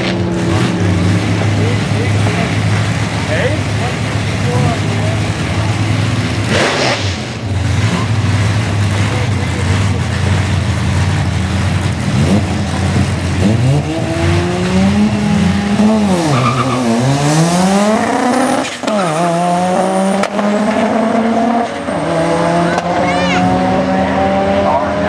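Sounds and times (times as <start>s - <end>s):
drag cars revving and launching: 0.0s - 25.0s.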